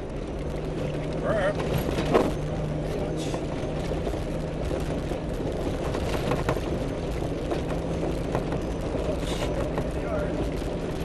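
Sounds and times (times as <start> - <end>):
off-road vehicle engine and tyres: 0.0 - 11.0
knocks and rattles from bumps: 1.5 - 11.0.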